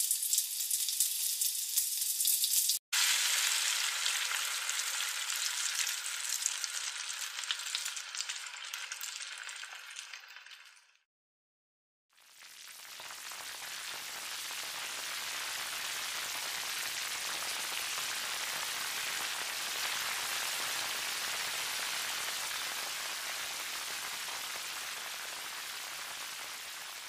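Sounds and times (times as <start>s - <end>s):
food sizzling in a frying pan: 0.0s - 11.0s, 12.1s - 27.0s.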